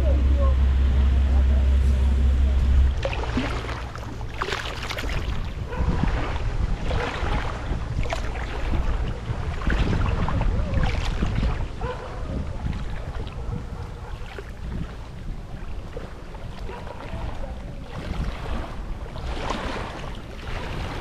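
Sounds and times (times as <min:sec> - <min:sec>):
choppy river water: 0:00.0 - 0:21.0
wind buffeting microphone: 0:00.0 - 0:21.0.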